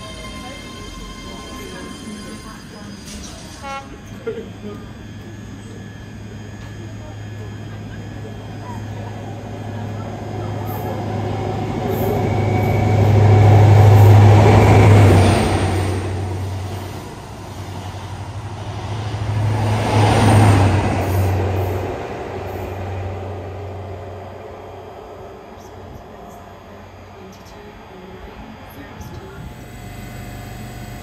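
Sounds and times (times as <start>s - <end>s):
train wheel noise: 0.0s - 29.8s
train engine drone: 0.0s - 31.0s.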